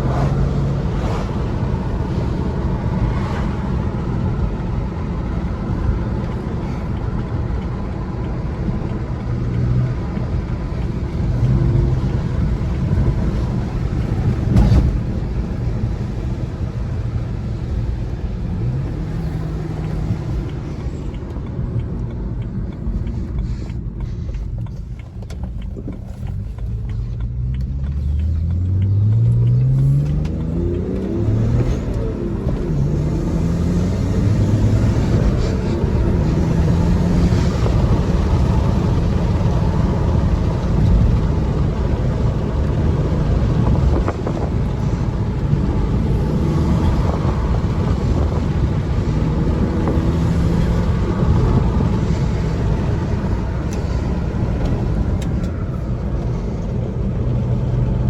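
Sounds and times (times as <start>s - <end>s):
car engine accelerating: 0.0s - 58.0s
tyre and road noise: 0.0s - 58.0s.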